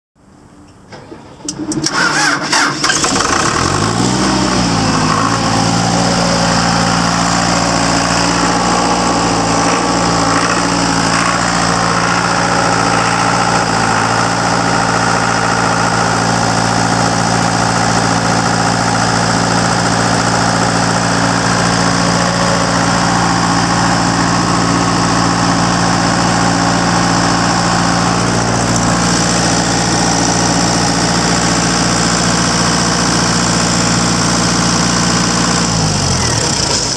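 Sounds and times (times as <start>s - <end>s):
diesel engine running: 1.4s - 36.9s.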